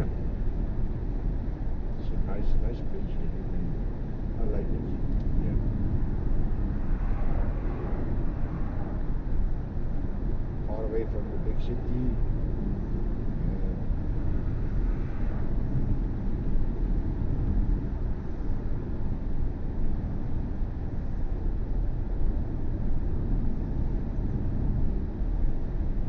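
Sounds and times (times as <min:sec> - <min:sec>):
road and tyre rumble: 0:00.0 - 0:26.0.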